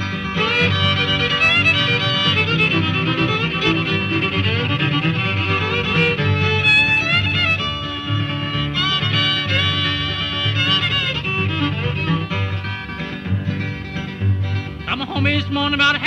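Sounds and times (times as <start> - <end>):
fast bowed fiddle melody: 0.0 - 16.0
string band rhythm accompaniment: 0.0 - 16.0.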